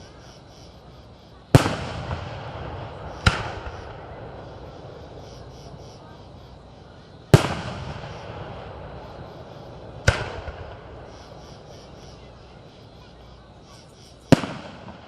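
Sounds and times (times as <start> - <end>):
fireworks booming: 1.5 - 15.0.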